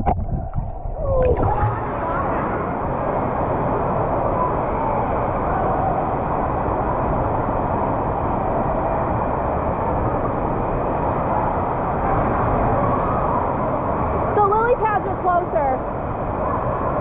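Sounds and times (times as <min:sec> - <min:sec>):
water rushing and rumbling: 0:00.0 - 0:17.0.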